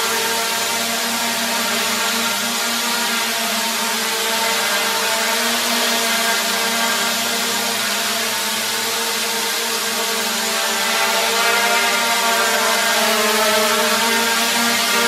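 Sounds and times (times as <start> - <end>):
quadcopter propellers buzzing: 0.0 - 15.0.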